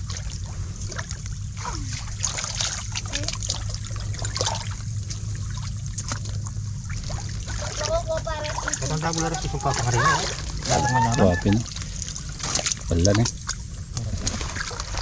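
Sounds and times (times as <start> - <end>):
small splashes in muddy water: 0.0 - 15.0
steady low hum: 0.0 - 15.0.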